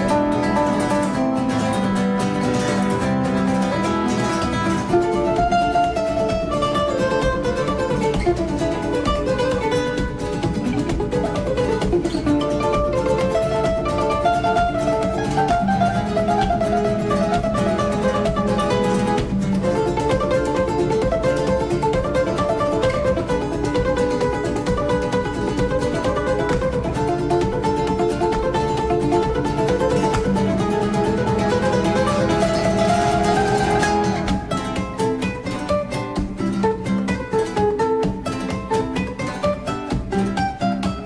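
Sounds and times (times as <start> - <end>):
plucked acoustic guitar melody: 0.0 - 41.0.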